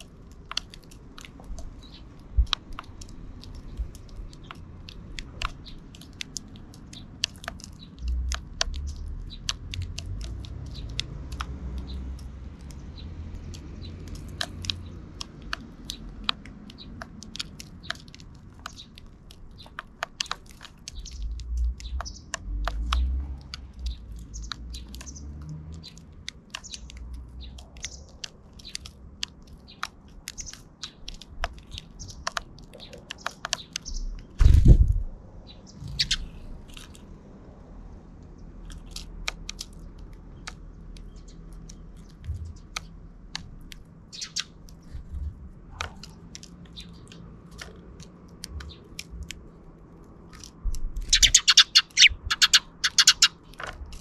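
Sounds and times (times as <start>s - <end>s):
seeds cracking: 0.0s - 35.1s, 38.2s - 54.0s
sparrows chirping: 0.0s - 54.0s.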